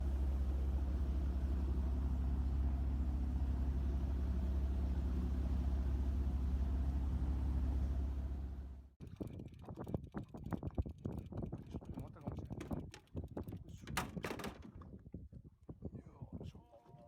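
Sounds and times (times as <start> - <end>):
boat engine rumbling: 0.0 - 14.9.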